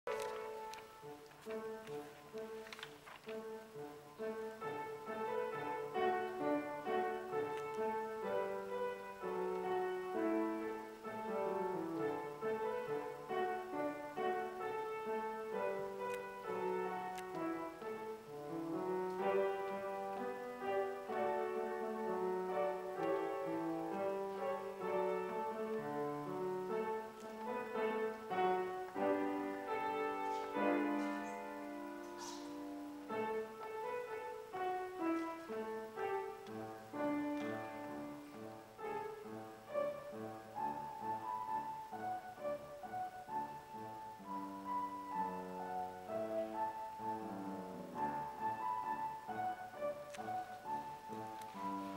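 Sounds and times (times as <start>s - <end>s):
upright piano playing: 0.0s - 51.9s.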